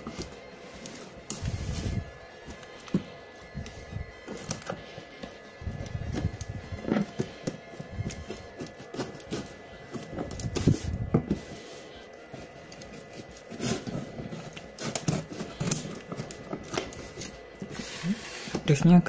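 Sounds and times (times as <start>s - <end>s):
scissors snipping tape and cardboard: 0.0s - 11.4s, 12.5s - 18.6s.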